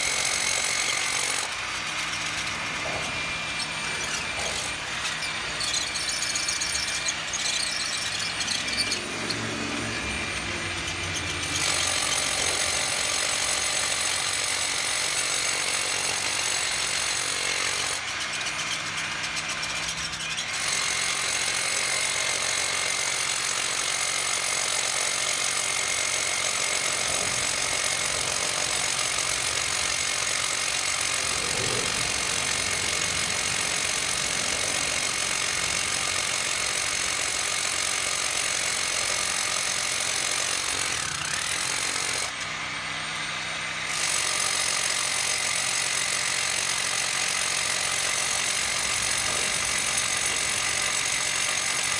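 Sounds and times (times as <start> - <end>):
angle grinder grinding: 0.0 - 51.9.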